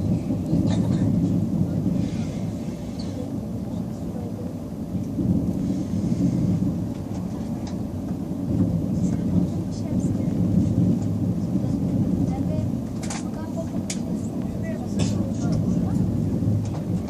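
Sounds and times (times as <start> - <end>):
high-speed train rumble: 0.0 - 17.0.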